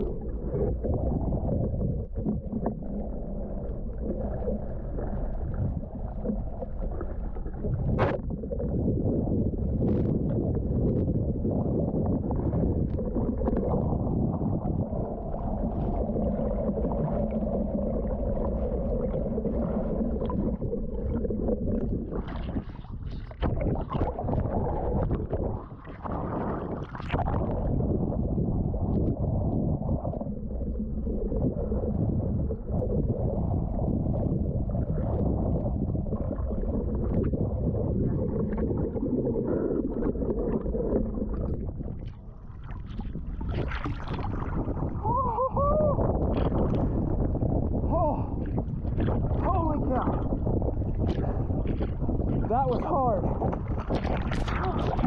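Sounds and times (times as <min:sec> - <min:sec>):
muffled underwater water rush: 0:00.0 - 0:55.0.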